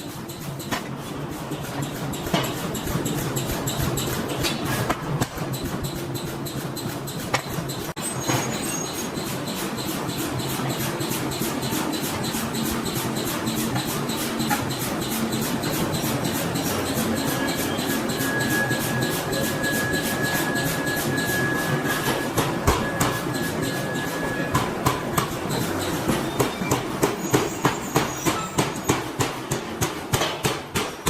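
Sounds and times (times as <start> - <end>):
machinery hum and metallic clatter: 0.0 - 31.0.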